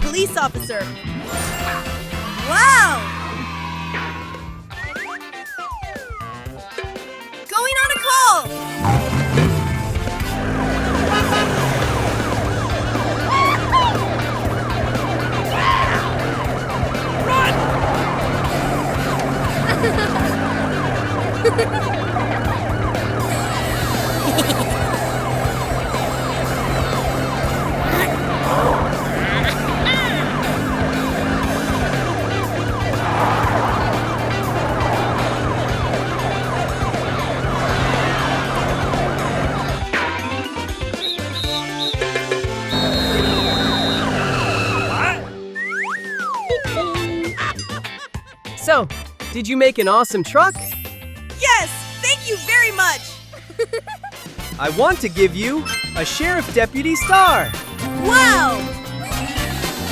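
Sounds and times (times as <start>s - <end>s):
police siren wailing: 1.5s - 6.4s, 8.0s - 47.6s, 55.6s - 59.9s
background music with low drone: 8.5s - 49.4s, 51.3s - 59.9s.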